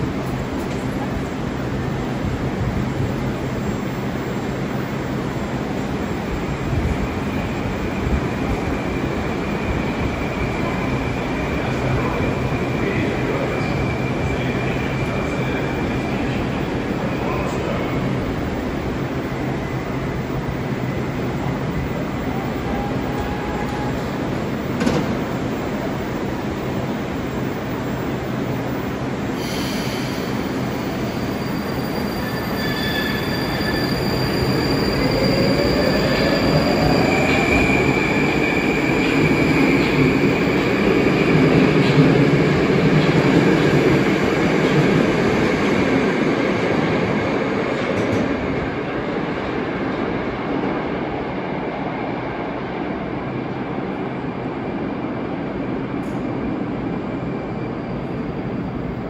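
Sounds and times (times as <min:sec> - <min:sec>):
train running on rails: 0:00.0 - 0:59.0.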